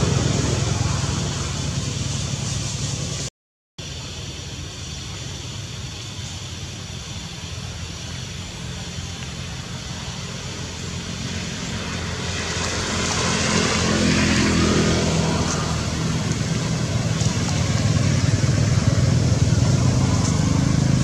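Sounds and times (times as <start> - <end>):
engine humming: 0.0 - 3.3, 3.9 - 21.0.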